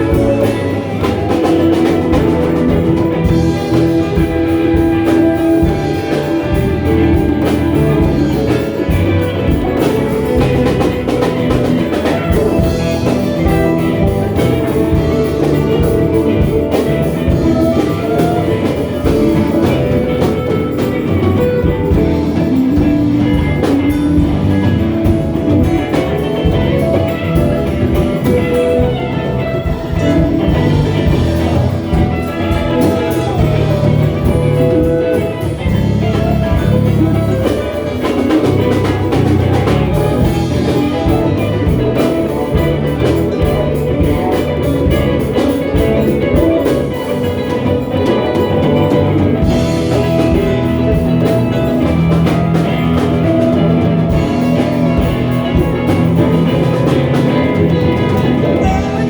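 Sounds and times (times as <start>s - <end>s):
drum kit: 0.0s - 59.0s
guitars: 0.0s - 59.0s.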